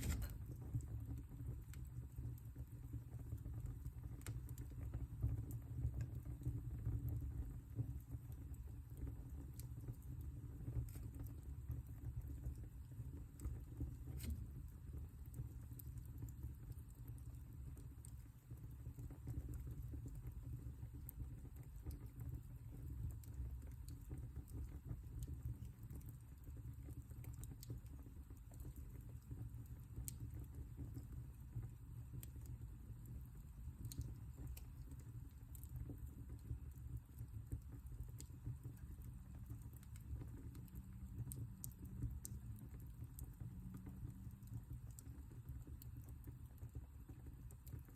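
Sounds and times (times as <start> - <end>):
fire crackles and pops: 0.0 - 47.9
flames low rumble: 0.0 - 47.9.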